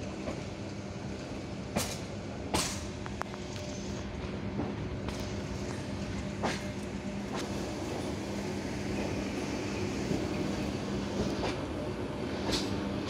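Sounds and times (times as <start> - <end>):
train rumbling with low hum: 0.0 - 13.0.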